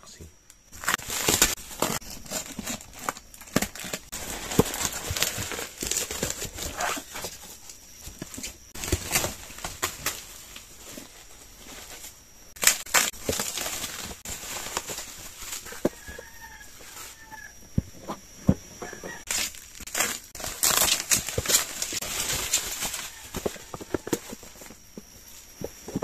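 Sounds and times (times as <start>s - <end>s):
bubble wrap and tape crinkling: 0.7s - 17.6s, 18.8s - 26.0s.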